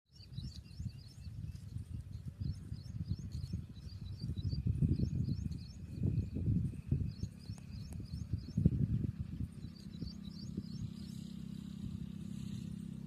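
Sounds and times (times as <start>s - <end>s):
small birds chirping: 0.1s - 13.0s
uneven low rumble: 0.4s - 13.0s.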